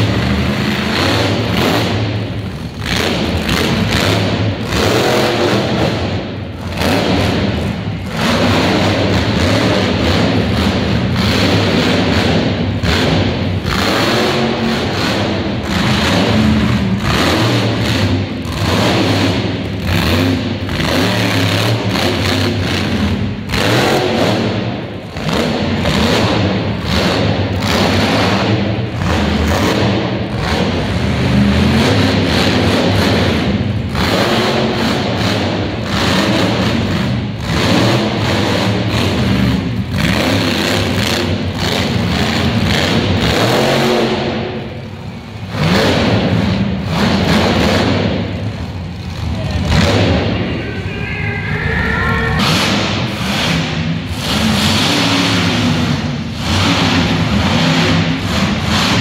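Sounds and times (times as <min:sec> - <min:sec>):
truck engine revving hard: 0:00.0 - 0:59.0.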